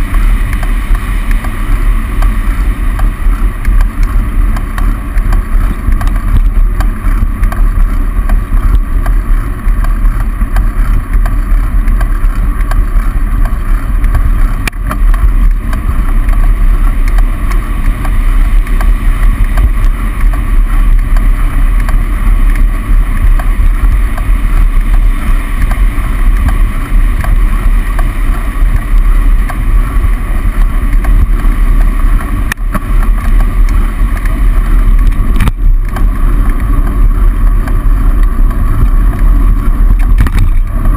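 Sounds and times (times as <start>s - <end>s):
road traffic in tunnel: 0.0s - 40.9s
wind rumble on microphone: 0.0s - 40.9s.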